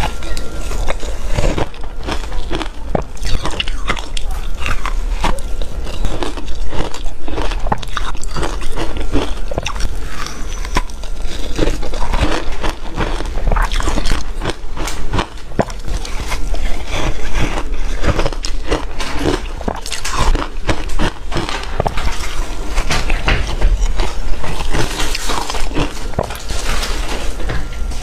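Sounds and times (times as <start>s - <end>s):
person chewing crunchy ice: 0.0s - 27.6s.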